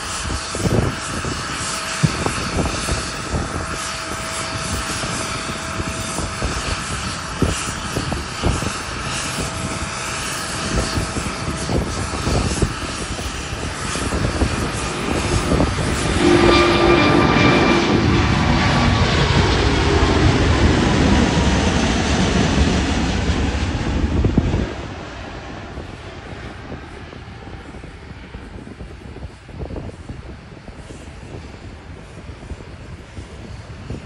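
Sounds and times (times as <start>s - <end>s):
crackling jet rumble: 0.0s - 34.0s
whining jet fan tone: 0.0s - 34.0s.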